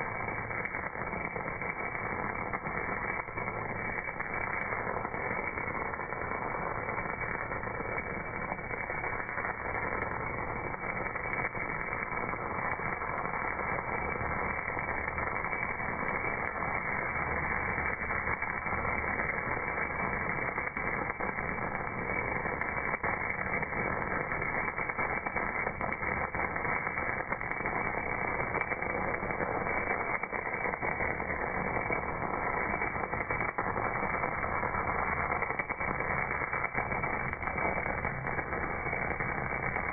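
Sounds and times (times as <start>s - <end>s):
welding arc crackling hiss: 0.0s - 39.9s.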